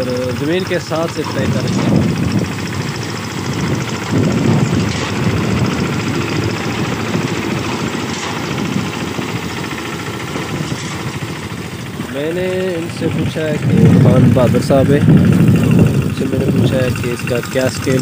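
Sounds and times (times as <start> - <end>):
small diesel engine running: 0.0 - 18.0.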